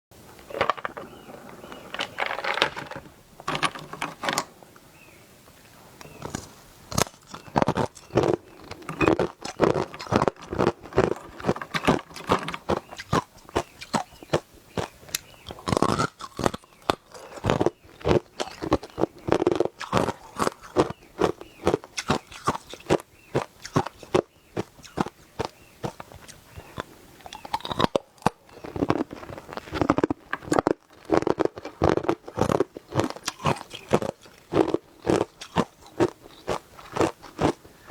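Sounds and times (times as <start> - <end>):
person crunching ice: 6.3 - 37.6.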